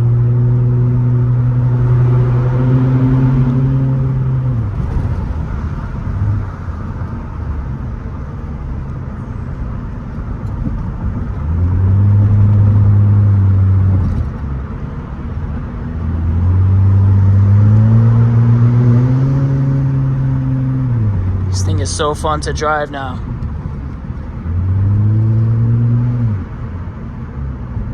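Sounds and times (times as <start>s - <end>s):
car exhaust rumble and drone: 0.0s - 27.9s.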